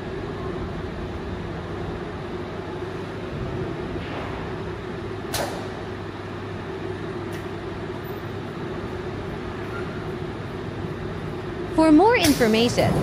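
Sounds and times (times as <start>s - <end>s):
factory noise: 0.0s - 13.0s.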